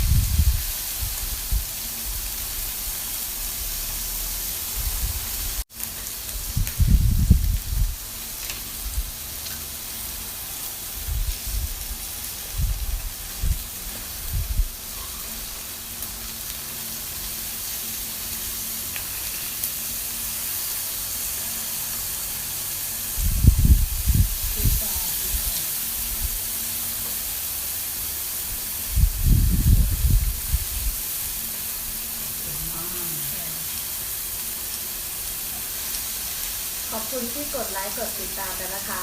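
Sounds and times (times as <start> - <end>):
meat sizzling on a grill: 0.0 - 39.0.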